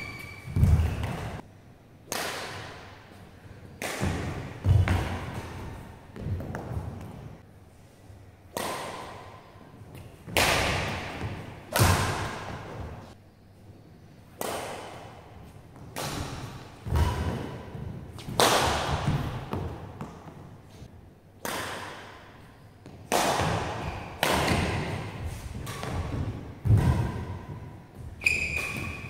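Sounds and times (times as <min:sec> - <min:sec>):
racket hitting shuttlecock: 0:00.0 - 0:01.4, 0:02.1 - 0:07.3, 0:08.5 - 0:13.1, 0:14.3 - 0:20.5, 0:21.4 - 0:29.0.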